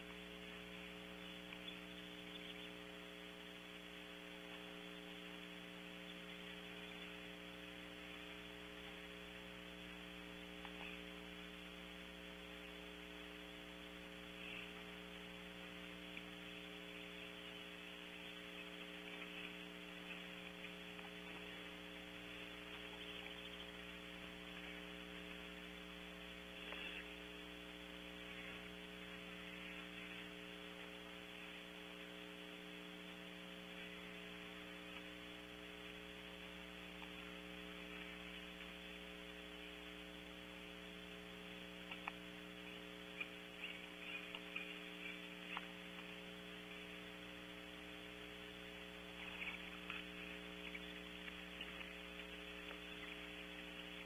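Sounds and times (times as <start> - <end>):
electrical hum with hiss: 0.0 - 54.0.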